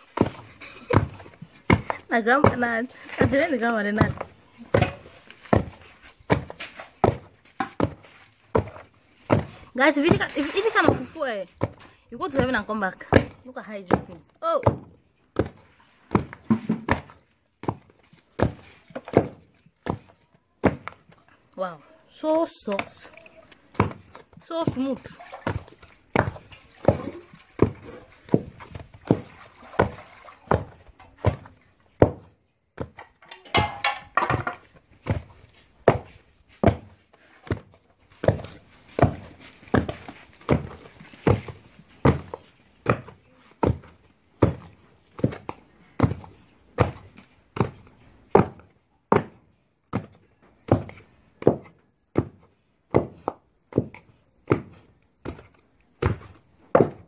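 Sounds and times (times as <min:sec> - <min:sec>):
wooden pestle pounding in mortar: 0:00.2 - 0:21.0, 0:23.7 - 0:29.2, 0:29.8 - 0:57.0.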